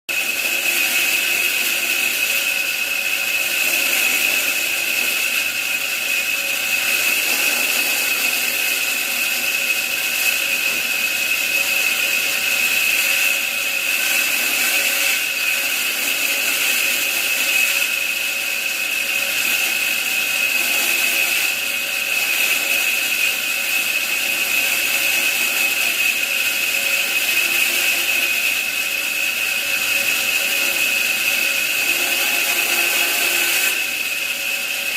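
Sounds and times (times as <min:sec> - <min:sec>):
power tool whining on wood: 0:00.1 - 0:34.9.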